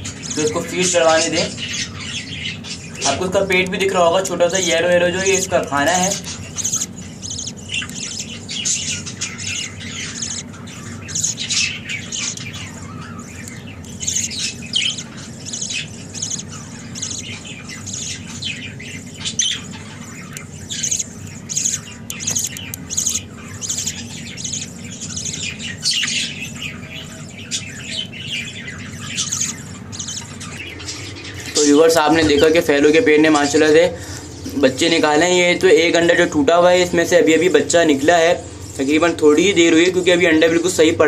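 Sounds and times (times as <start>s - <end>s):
budgerigars chirping and squawking: 0.0s - 41.0s
steady low hum: 0.0s - 41.0s.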